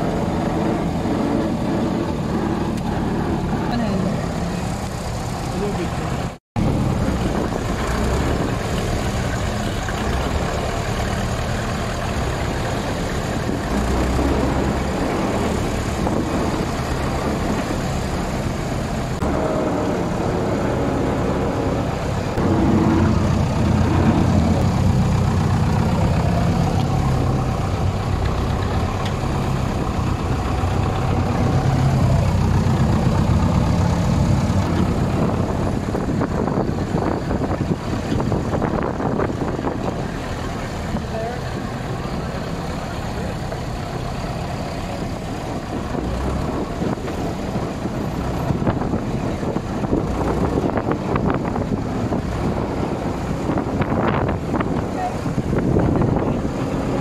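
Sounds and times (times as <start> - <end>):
road noise: 0.0 - 57.0
vehicle engine droning: 0.0 - 57.0.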